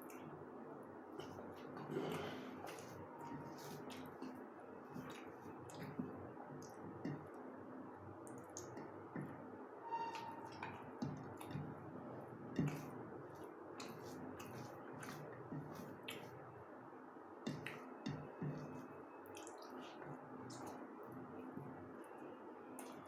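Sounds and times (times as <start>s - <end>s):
wet eating sounds: 0.0s - 7.5s, 8.1s - 9.4s, 10.2s - 16.7s, 17.4s - 23.0s.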